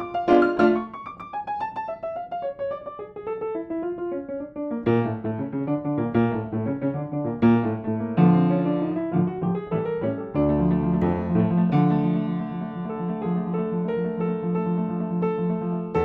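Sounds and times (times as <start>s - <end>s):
upright piano playing: 0.0s - 16.0s.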